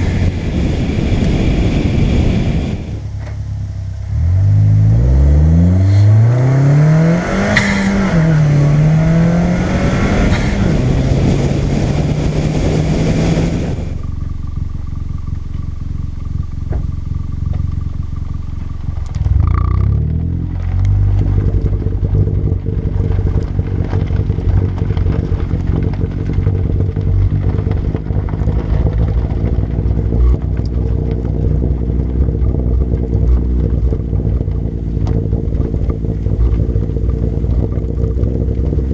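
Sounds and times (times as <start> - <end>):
car exhaust accelerating: 0.0 - 38.9.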